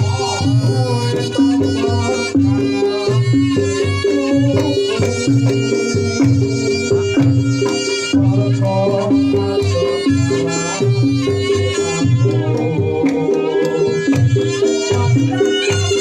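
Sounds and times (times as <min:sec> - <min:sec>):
drums beating driving rhythm: 0:00.0 - 0:16.0
gamelan music: 0:00.0 - 0:16.0
low bass notes: 0:00.0 - 0:16.0.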